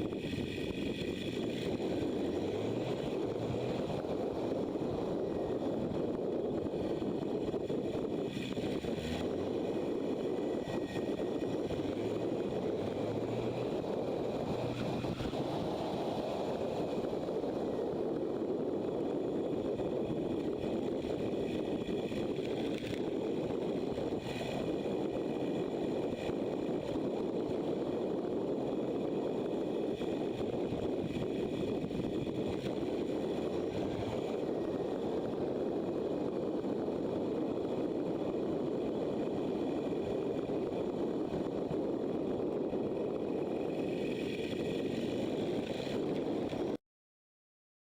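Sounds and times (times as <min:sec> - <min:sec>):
motorcycle engine running: 0:00.0 - 0:46.8
wind noise on microphone: 0:00.0 - 0:46.8.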